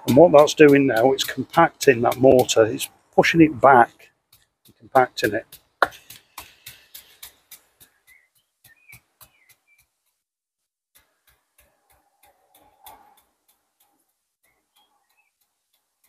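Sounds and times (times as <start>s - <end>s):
brush tapping mortar: 0.0s - 16.0s.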